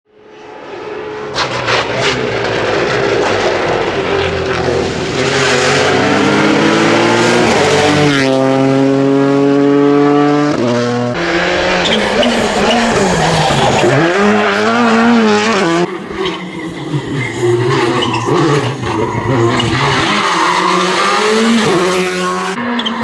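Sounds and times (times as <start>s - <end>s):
rally car engine revving: 0.2s - 23.0s.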